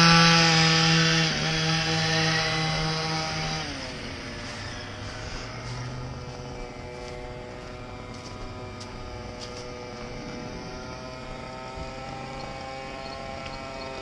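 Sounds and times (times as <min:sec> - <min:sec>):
small two-stroke engine running: 0:00.0 - 0:14.0.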